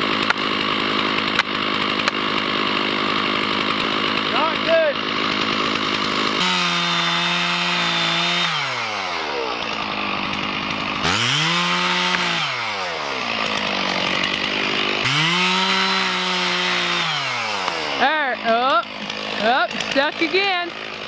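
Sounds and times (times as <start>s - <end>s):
chainsaw revving and idling: 0.0s - 21.0s.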